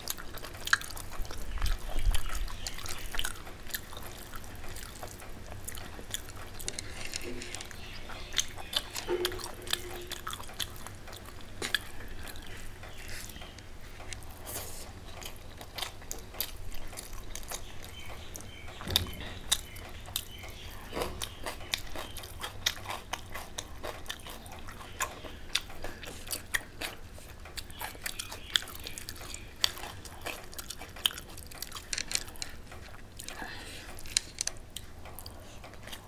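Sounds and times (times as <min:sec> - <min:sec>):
chewing and wet mouth clicks: 0:00.0 - 0:18.8, 0:19.5 - 0:36.0.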